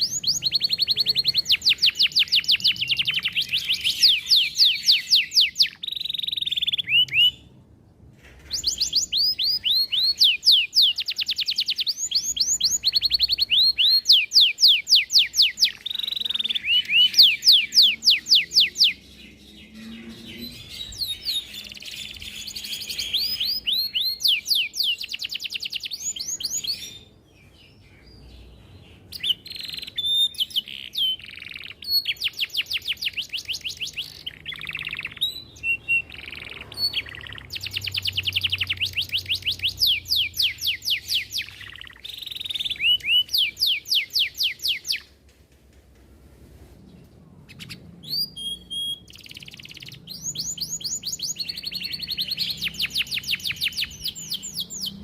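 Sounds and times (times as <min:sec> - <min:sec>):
canary singing trills: 0:00.0 - 0:07.6, 0:08.4 - 0:45.2, 0:47.5 - 0:55.0.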